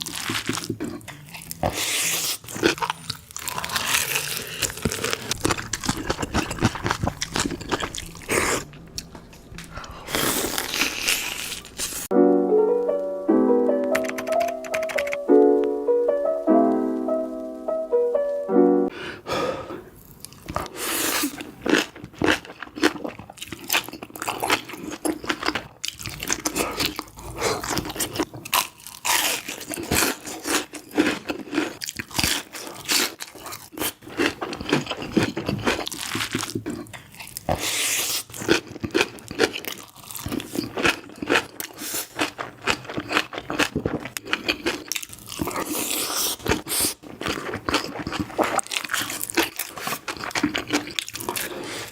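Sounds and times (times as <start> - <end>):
crunchy chewing of crisp food: 0.0 - 12.1, 19.9 - 51.9.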